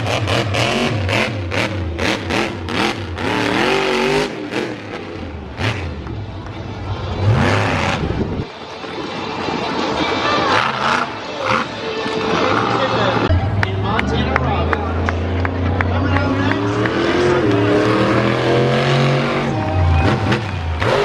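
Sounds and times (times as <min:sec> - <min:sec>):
truck engine revving hard: 0:00.0 - 0:06.2, 0:07.1 - 0:08.5, 0:10.4 - 0:21.0.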